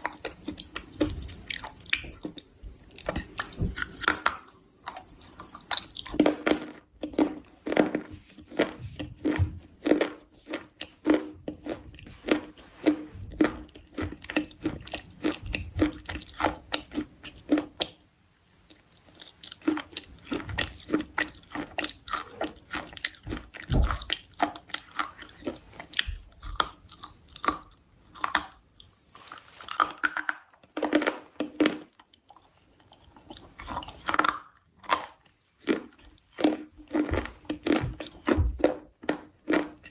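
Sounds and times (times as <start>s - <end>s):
person chewing crunchy food: 0.0s - 18.0s, 18.7s - 39.9s.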